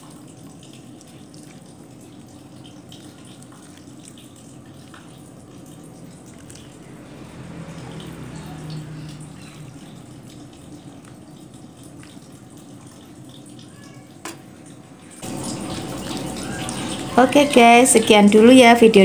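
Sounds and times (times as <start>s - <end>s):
soup sloshing and pouring: 0.0s - 17.3s.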